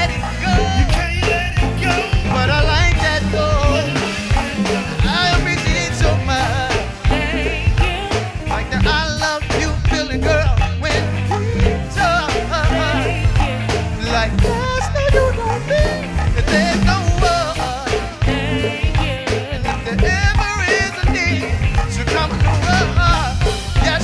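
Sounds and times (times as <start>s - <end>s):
drum kit: 0.0s - 24.0s
heavy bass line: 0.0s - 24.0s
wavering melody line: 0.0s - 24.0s.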